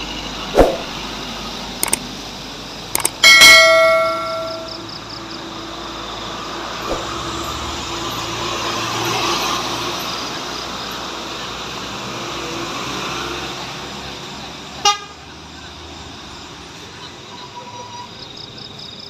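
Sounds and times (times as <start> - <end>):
heavy vehicle running with whine: 0.0 - 17.6.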